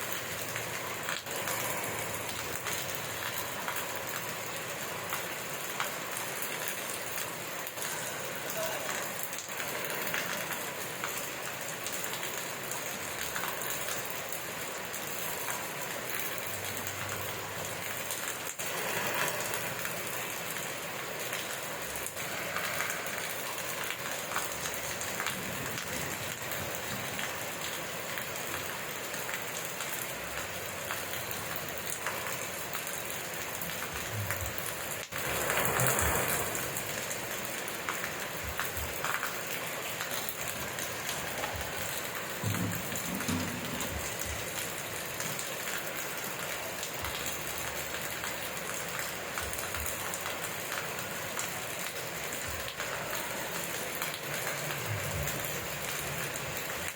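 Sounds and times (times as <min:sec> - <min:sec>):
rain pattering: 0:00.0 - 0:56.9.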